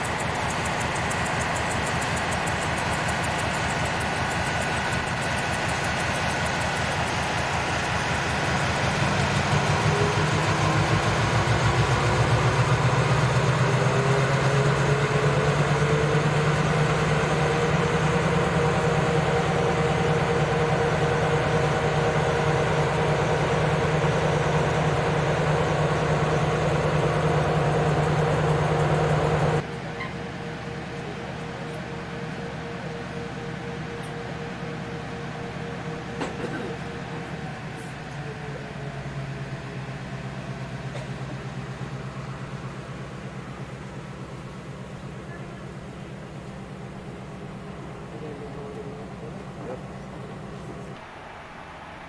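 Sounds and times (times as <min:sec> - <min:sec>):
diesel locomotive engine running: 0:00.0 - 0:52.0
rising engine whine: 0:00.0 - 0:52.0.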